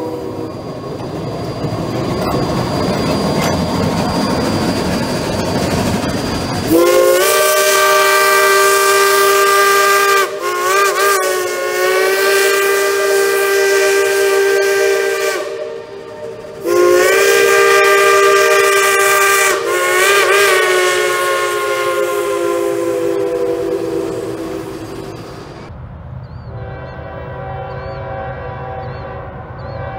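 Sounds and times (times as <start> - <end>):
steam locomotive whistle: 0.0 - 25.7, 26.5 - 29.9.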